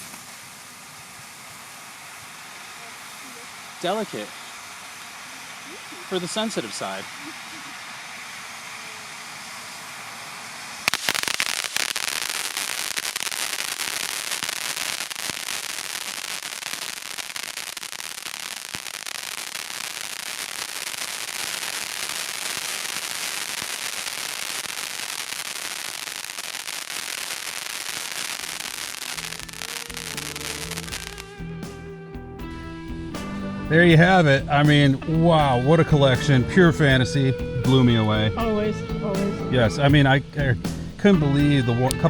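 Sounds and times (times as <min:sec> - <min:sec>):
fireworks crackling and popping: 0:00.0 - 0:31.8, 0:32.4 - 0:38.4, 0:39.1 - 0:42.0.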